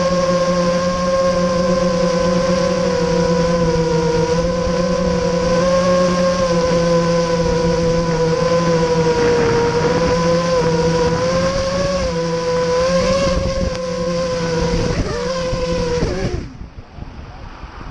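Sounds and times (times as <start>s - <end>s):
quadcopter motors whining: 0.0s - 16.9s.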